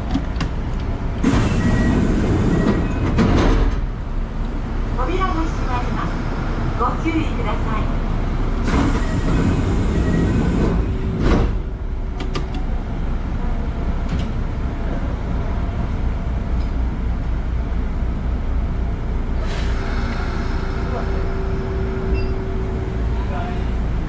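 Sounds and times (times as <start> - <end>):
electric train equipment hum: 0.0 - 24.0.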